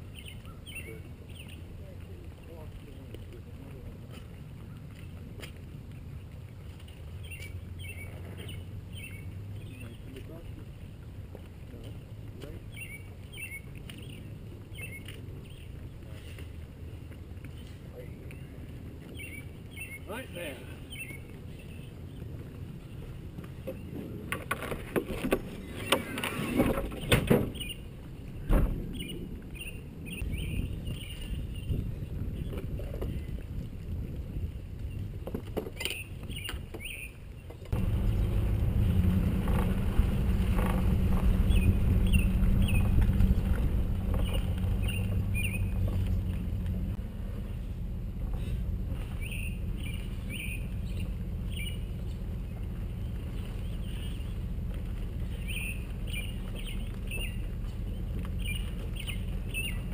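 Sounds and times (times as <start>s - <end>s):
birds chirping: 0.0s - 59.9s
vehicle engine rumbling: 0.0s - 59.9s.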